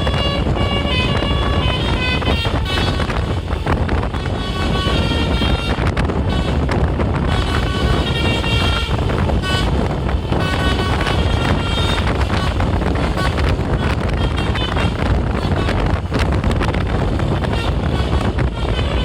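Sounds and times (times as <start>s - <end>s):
bus engine rumble: 0.0s - 19.0s
bus horn playing a tune: 0.0s - 19.0s.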